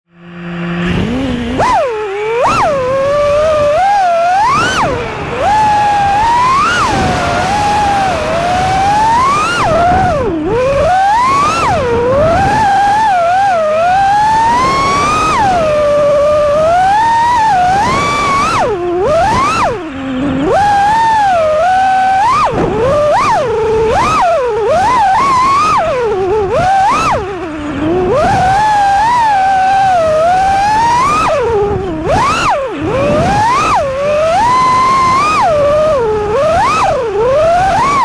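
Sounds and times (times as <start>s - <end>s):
drone motors whining: 0.1s - 38.0s
rushing air: 0.2s - 38.0s.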